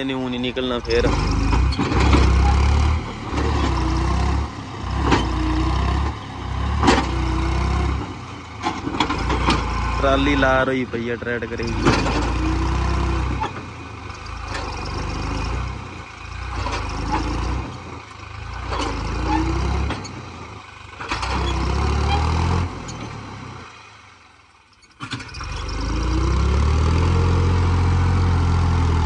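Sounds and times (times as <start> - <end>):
tractor diesel engine revving: 0.0 - 29.0.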